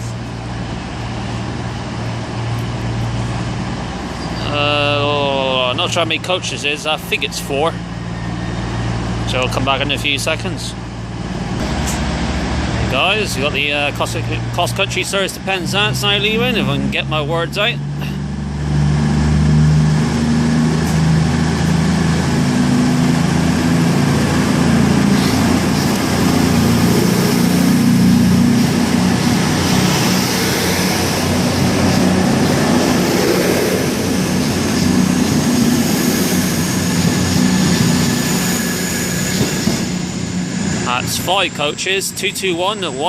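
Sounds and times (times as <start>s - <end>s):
diesel train accelerating past: 0.0s - 43.0s.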